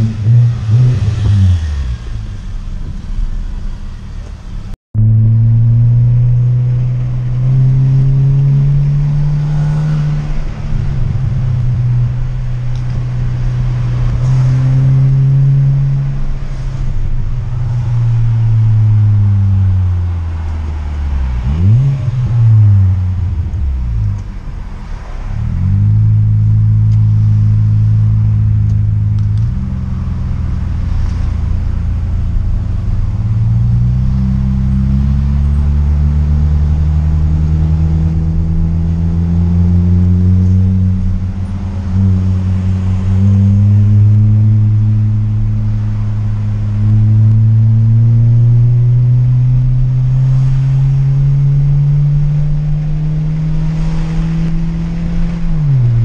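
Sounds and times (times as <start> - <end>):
car engine revving through exhaust: 0.0 - 56.0.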